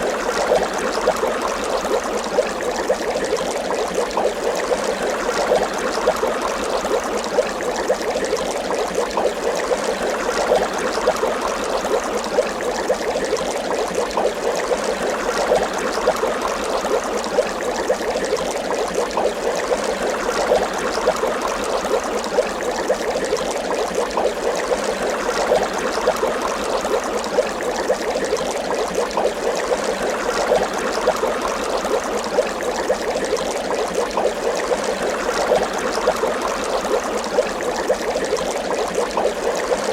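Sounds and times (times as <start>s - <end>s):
water bubbling: 0.0s - 39.9s.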